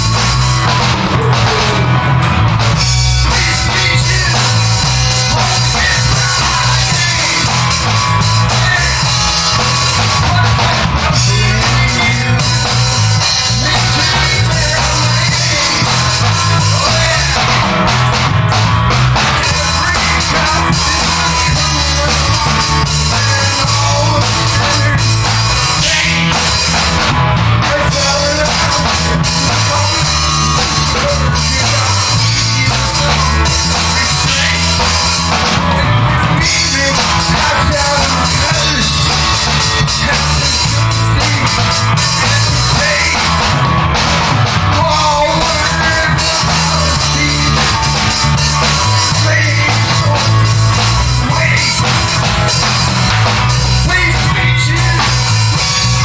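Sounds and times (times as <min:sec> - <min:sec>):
driving drum kit: 0:00.0 - 0:56.0
heavy bass: 0:00.0 - 0:56.0
rock music: 0:00.0 - 0:56.0.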